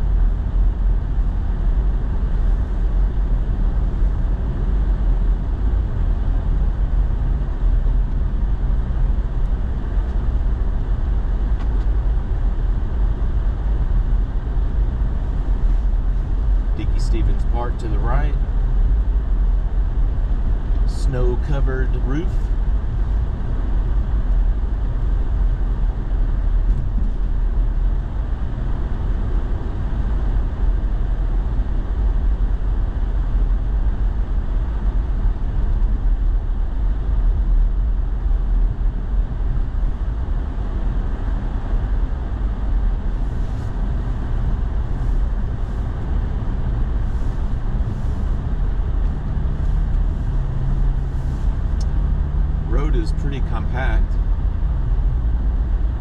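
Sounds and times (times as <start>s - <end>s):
road and engine rumble in cab: 0.0s - 56.0s.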